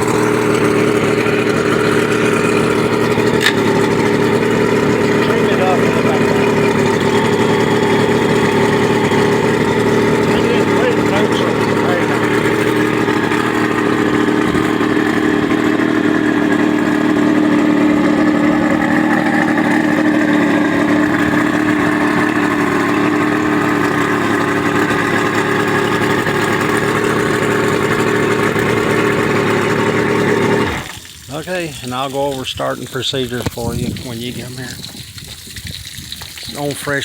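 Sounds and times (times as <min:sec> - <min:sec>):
outboard motor idling: 0:00.0 - 0:37.0.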